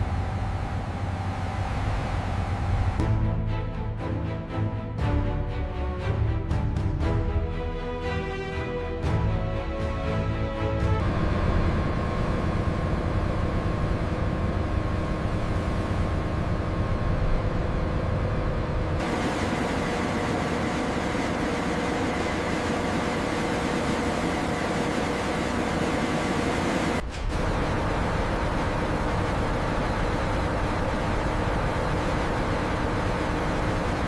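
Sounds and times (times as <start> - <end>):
low mechanical rumble: 0.0 - 5.6, 10.8 - 34.0.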